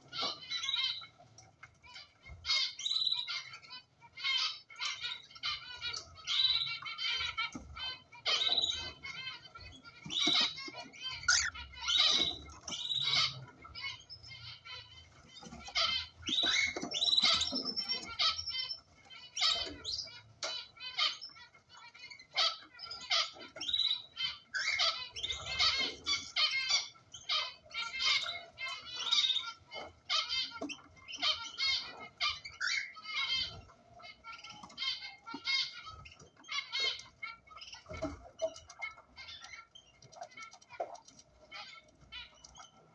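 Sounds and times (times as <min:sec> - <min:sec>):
cockatiels chirping: 0:00.0 - 0:01.2, 0:01.9 - 0:42.9.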